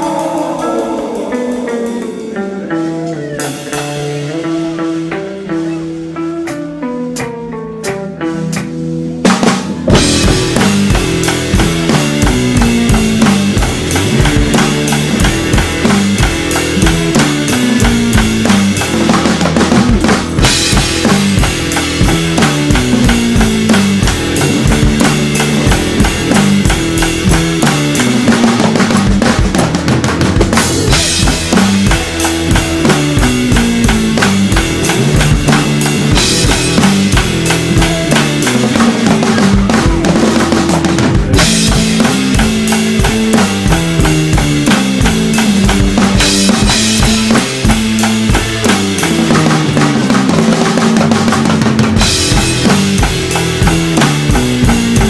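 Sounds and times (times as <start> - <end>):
backing track with bass line: 0.0 - 55.0
drum kit played with sticks: 0.0 - 55.0.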